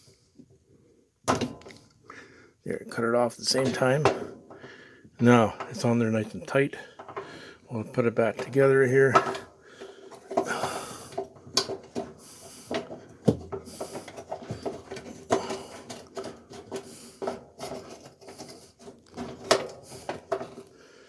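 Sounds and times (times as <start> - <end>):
hands fitting plastic parts: 1.2 - 2.0, 2.9 - 20.8.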